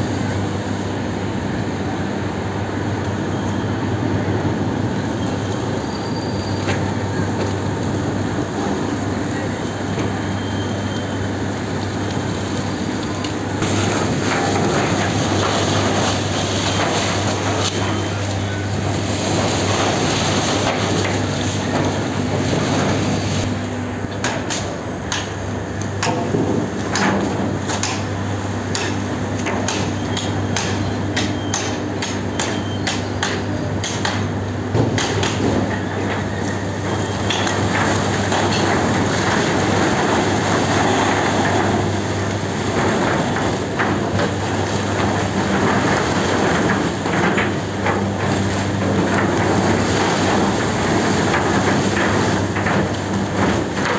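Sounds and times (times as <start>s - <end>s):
conveyor machinery humming: 0.0s - 53.9s.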